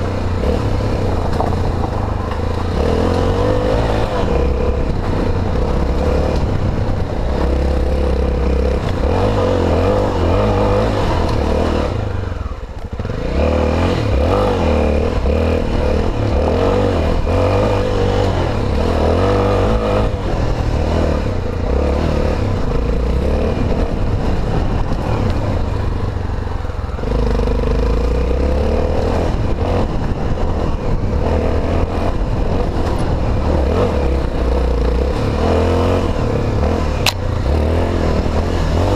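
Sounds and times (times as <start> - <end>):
motorcycle engine on dirt trail: 0.0 - 38.9.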